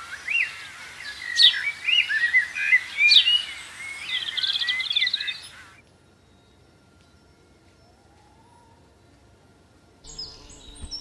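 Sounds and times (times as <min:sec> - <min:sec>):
birds chirping and trilling: 0:00.0 - 0:08.9, 0:10.1 - 0:11.0
faint background noise: 0:00.0 - 0:11.0.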